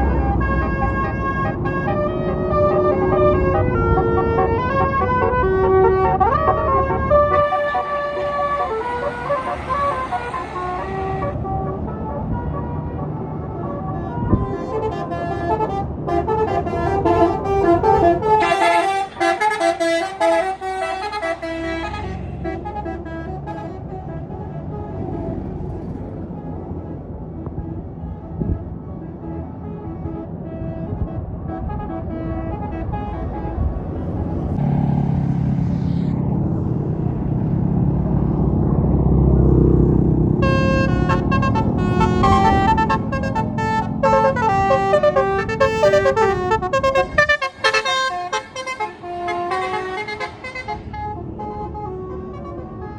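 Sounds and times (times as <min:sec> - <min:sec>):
multi-tone air horn melody: 0:00.0 - 0:25.4, 0:27.5 - 0:34.7, 0:40.4 - 0:52.9
bus engine rumble: 0:00.0 - 0:52.9.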